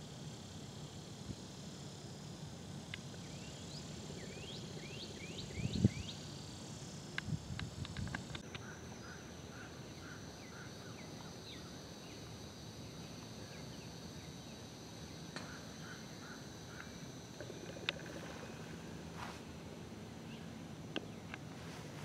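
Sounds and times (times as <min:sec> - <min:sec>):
steady high whine: 0:00.0 - 0:22.0.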